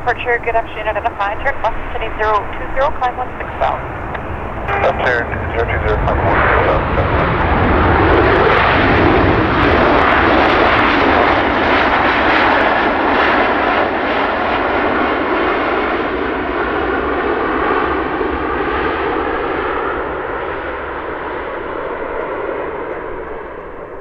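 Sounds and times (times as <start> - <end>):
jet engine rush: 0.0 - 24.0.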